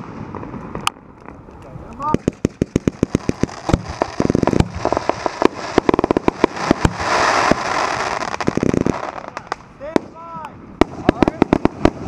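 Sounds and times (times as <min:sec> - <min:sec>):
fireworks cake shots: 0:00.0 - 0:12.0
fireworks crackling: 0:00.0 - 0:12.0.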